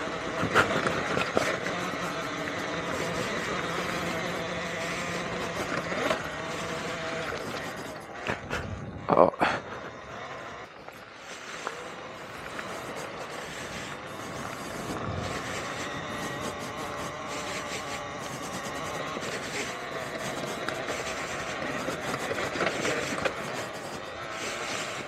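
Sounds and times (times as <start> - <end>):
electric motor whine: 0.0 - 25.0
tyres rolling on trail: 0.0 - 25.0.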